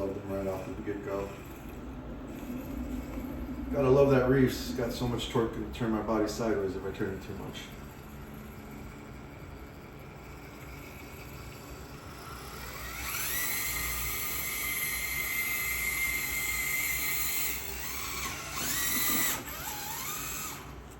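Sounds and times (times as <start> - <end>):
electric motor whining: 0.0 - 20.9.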